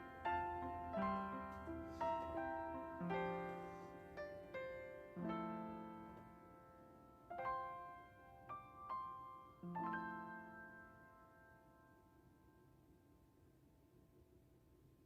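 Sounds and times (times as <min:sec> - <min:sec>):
slow piano chords: 0:00.0 - 0:13.2.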